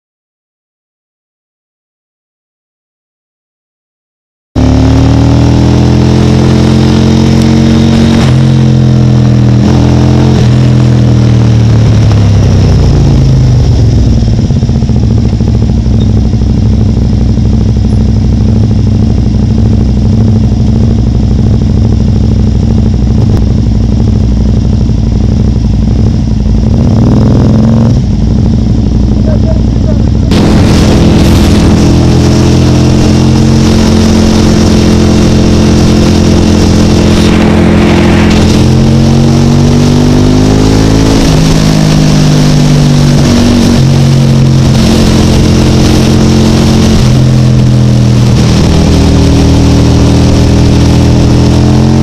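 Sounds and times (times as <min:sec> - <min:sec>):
motorcycle engines running: 0:04.6 - 0:52.0.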